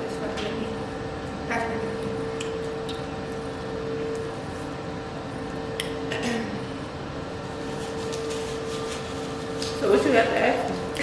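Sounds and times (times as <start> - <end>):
steady hum: 0.0 - 11.0
eating sounds at a table: 1.2 - 11.0.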